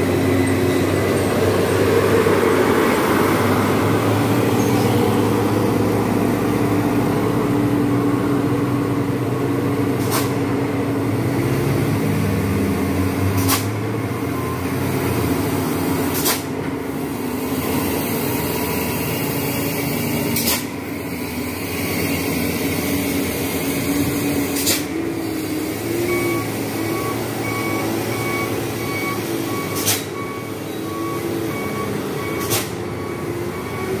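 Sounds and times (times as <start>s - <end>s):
heavy vehicle engines running: 0.0s - 34.0s.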